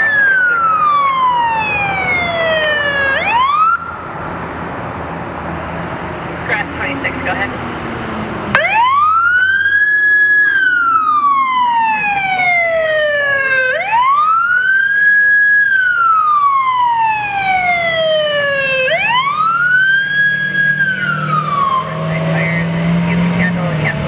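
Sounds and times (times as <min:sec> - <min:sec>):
siren wailing: 0:00.0 - 0:04.3, 0:08.5 - 0:24.0
truck engine: 0:00.0 - 0:24.0.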